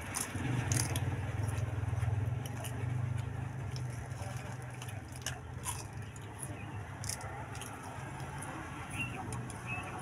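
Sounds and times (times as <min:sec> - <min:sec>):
crunchy snacks being chewed: 0:00.0 - 0:10.0.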